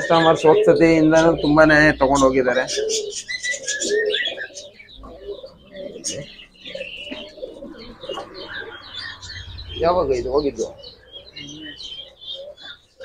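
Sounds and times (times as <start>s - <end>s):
high bird chirps: 0.0s - 13.0s
pigeons cooing: 0.0s - 13.0s.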